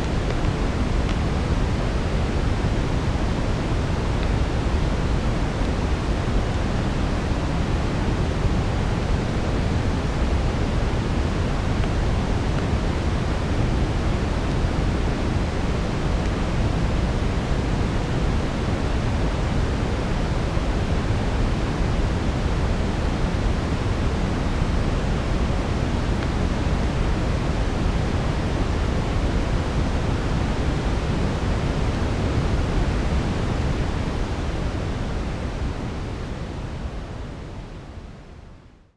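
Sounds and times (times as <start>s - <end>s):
brown noise rushing hiss: 0.0s - 38.9s.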